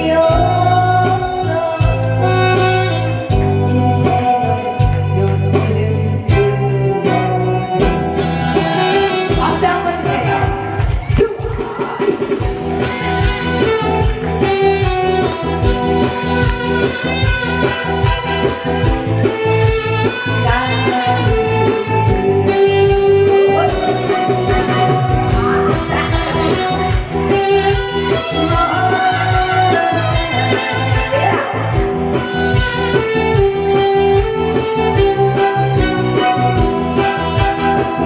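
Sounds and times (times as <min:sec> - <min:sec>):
song with beat and guitar: 0:00.0 - 0:38.0.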